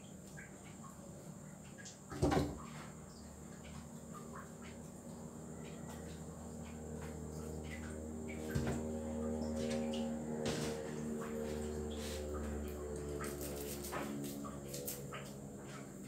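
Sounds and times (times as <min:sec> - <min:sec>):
low hum: 0:02.9 - 0:16.0.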